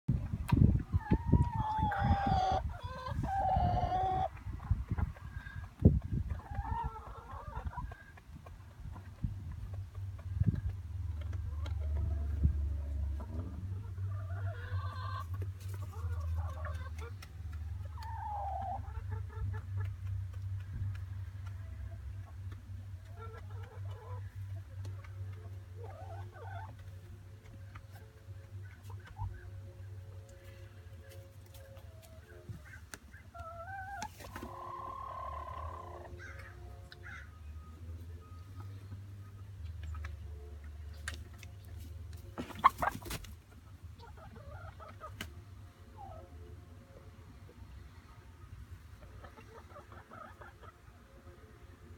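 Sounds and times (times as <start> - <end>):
hens clucking softly: 0.1 - 37.4, 40.9 - 45.3, 48.9 - 50.9
steady low hum: 4.3 - 51.9.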